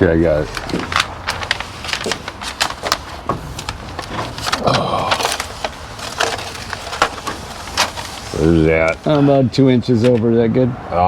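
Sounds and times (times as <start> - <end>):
plastic crinkling rustle: 0.0 - 9.4
plastic film crackling: 0.0 - 9.4.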